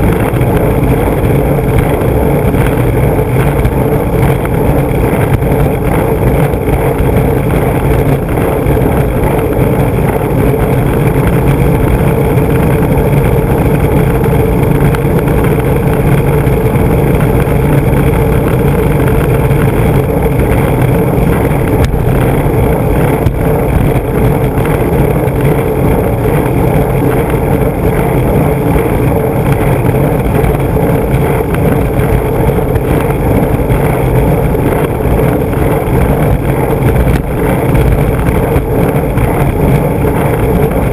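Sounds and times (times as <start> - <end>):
skateboard wheels rolling on asphalt: 0.0 - 40.9.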